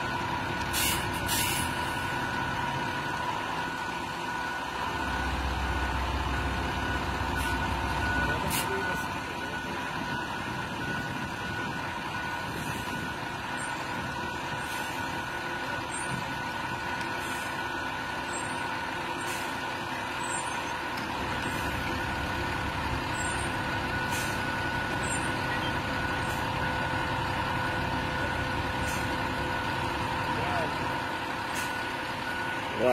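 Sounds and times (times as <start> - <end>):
diesel truck engines running: 0.0 - 32.9.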